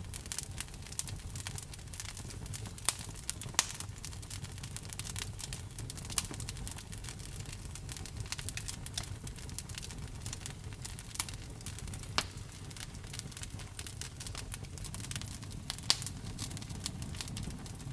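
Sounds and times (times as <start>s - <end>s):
campfire crackling and popping: 0.0s - 17.9s.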